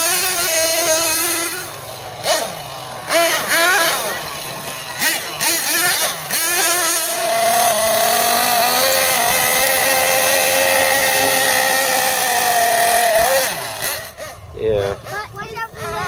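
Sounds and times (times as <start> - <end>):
rc truck nitro engine revving: 0.0 - 16.0.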